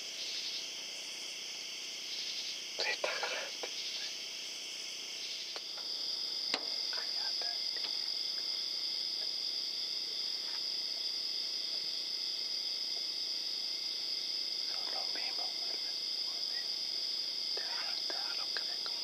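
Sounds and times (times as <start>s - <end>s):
crickets trilling: 0.0s - 19.0s
faint ticks and rustles: 0.2s - 19.0s.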